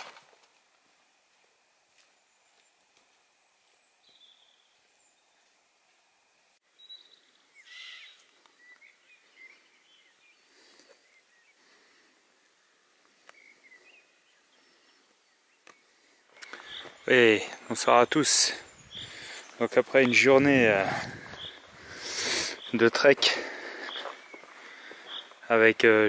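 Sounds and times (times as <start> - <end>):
faint bird chirps: 2.1 - 5.6, 6.7 - 25.5.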